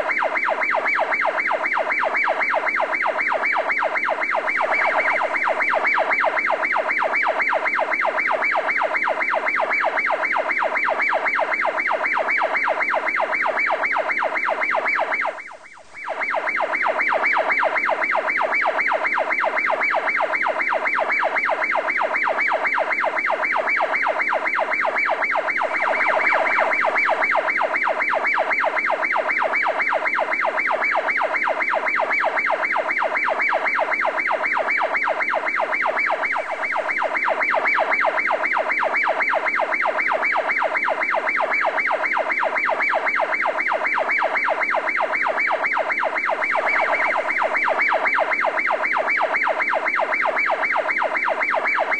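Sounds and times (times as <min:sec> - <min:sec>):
rapidly pulsing siren tone: 0:00.0 - 0:51.9.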